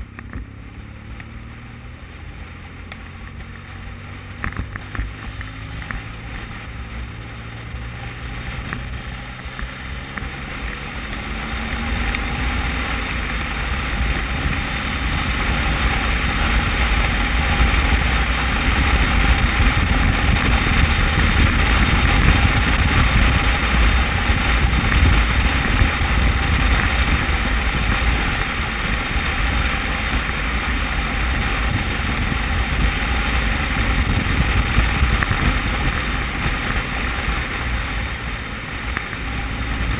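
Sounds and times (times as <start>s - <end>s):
motorcycle engine: 0.0s - 39.9s
wind noise on microphone: 0.0s - 39.9s.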